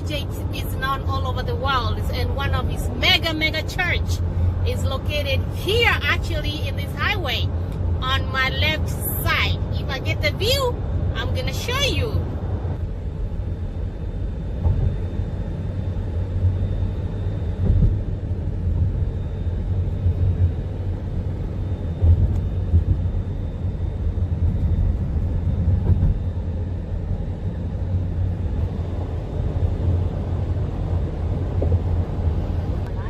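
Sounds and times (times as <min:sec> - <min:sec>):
car road and engine rumble: 0:00.0 - 0:33.0.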